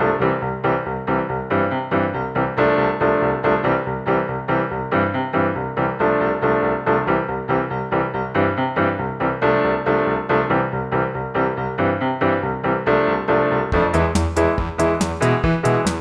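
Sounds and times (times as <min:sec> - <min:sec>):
upbeat electronic keyboard music: 0:00.0 - 0:16.0.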